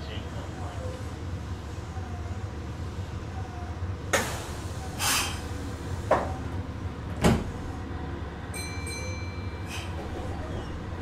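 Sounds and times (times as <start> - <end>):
electric train interior hum: 0.0 - 11.0.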